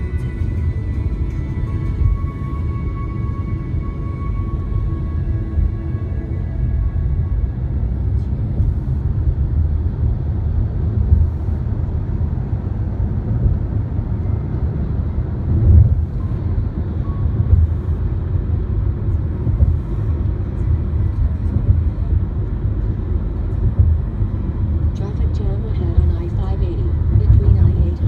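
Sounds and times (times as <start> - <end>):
road noise low rumble: 0.0 - 28.0.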